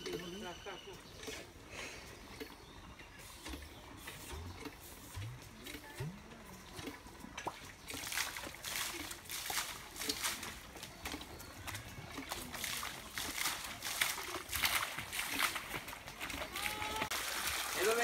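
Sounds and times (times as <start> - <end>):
muddy water splashing and sloshing: 0.0 - 18.0.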